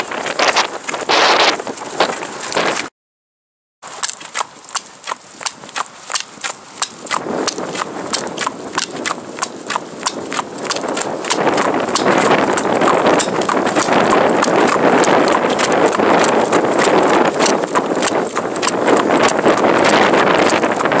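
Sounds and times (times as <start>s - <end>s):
horse hooves trotting on asphalt: 0.0s - 2.9s, 3.8s - 21.0s.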